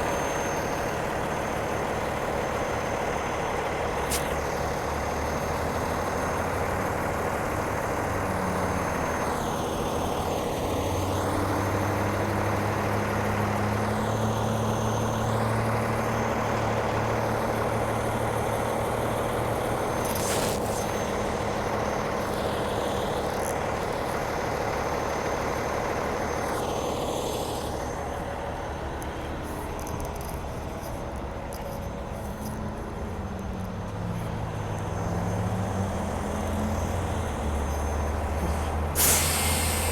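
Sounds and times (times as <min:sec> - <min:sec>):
road noise: 0:00.0 - 0:39.9
truck engine running: 0:00.0 - 0:39.9.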